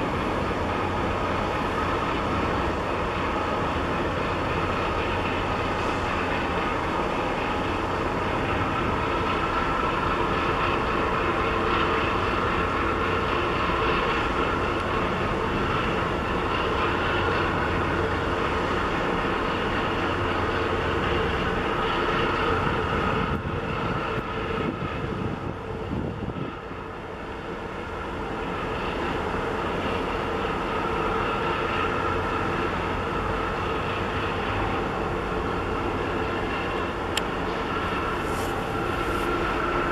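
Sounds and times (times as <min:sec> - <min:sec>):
ship diesel engine drone: 0:00.0 - 0:39.9.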